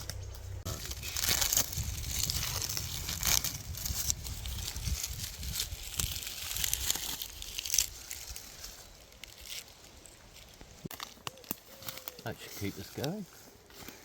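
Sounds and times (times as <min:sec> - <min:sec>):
bark tearing: 0:00.7 - 0:12.2.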